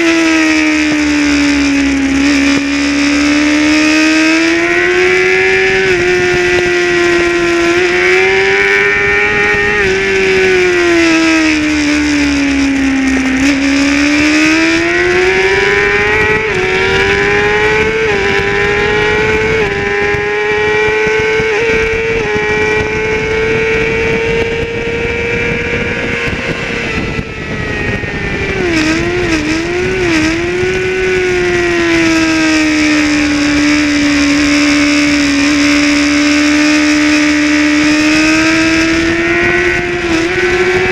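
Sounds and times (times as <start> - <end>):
racing motorcycle engine revving: 0.0 - 40.9
wind rushing on microphone: 0.0 - 40.9.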